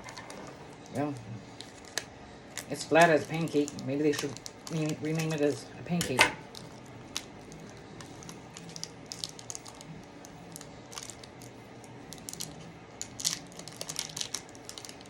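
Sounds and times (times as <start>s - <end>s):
snack wrapper crinkling: 0.0s - 5.6s, 6.4s - 15.0s.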